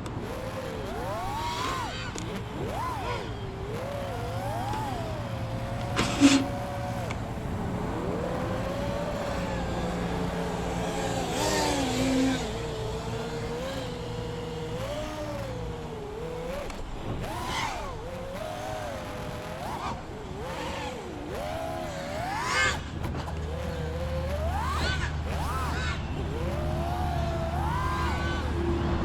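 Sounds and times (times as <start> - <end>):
quadcopter motors whining: 0.0 - 29.0.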